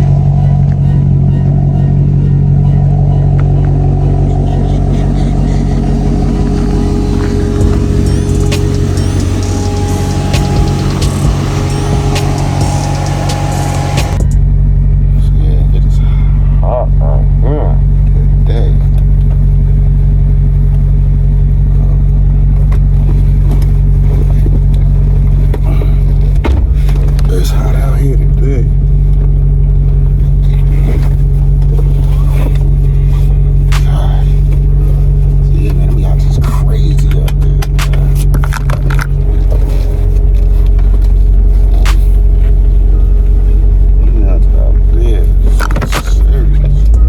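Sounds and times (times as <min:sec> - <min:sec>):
car engine droning while driving: 0:00.0 - 0:47.0.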